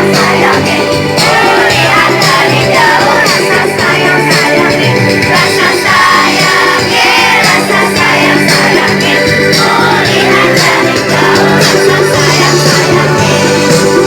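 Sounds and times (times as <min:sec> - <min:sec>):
children's choir singing: 0:00.0 - 0:14.0
music with steady beat: 0:00.0 - 0:14.0.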